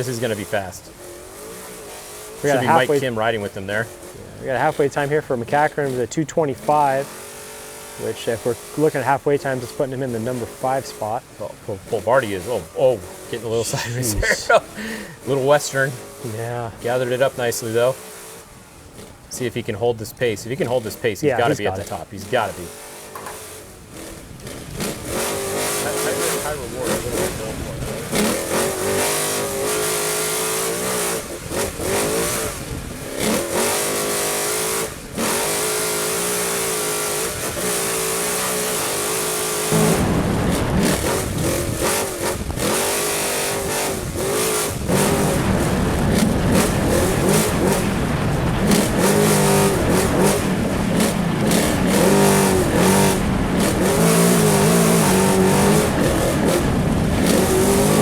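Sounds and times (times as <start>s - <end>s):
rough terrain noise: 0.0s - 58.0s
truck engine revving: 0.0s - 58.0s
wind: 0.0s - 58.0s.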